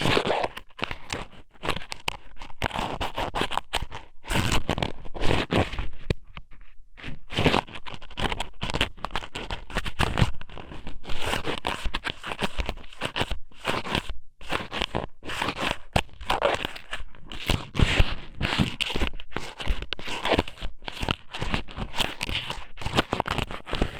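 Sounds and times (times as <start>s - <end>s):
scratching and crunching on microphone: 0.0s - 23.9s.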